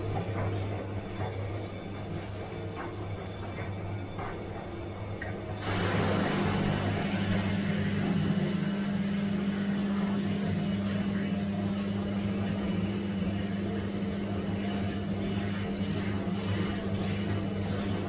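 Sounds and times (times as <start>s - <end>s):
washing machine humming and whirring: 0.0s - 18.0s.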